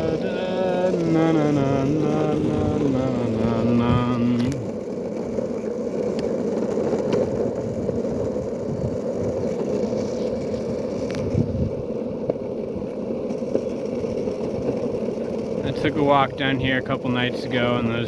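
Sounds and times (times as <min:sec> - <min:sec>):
skateboard wheels rolling on asphalt: 0:00.0 - 0:18.0.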